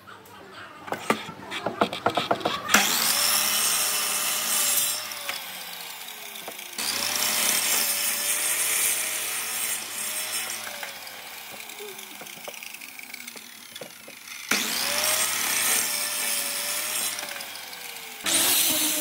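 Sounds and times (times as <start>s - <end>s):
miter saw cutting wood: 1.0s - 19.0s.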